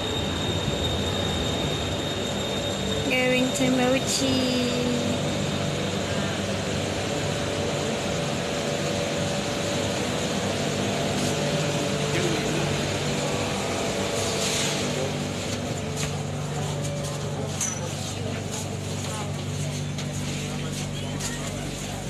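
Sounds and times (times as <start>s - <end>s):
train machine hum: 0.0s - 22.0s.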